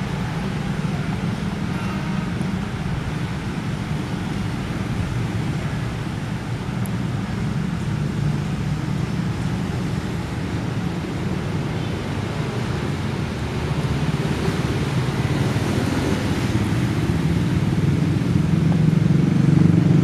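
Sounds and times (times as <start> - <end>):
passing road traffic: 0.0 - 20.0.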